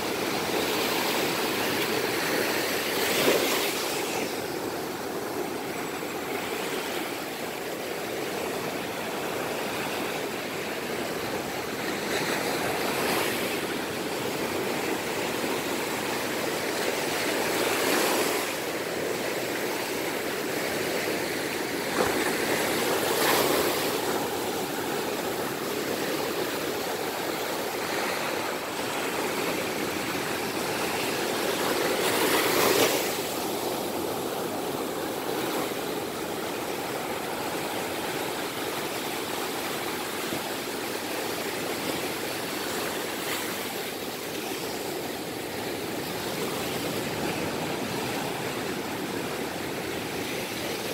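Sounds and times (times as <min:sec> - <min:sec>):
ocean surf washing up sand: 0:00.0 - 0:50.9.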